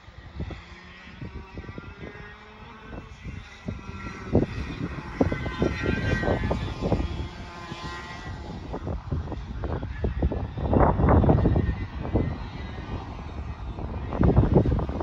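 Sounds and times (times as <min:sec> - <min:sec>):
kart engine revving: 0:00.0 - 0:15.0
wind buffeting microphone: 0:00.0 - 0:15.0.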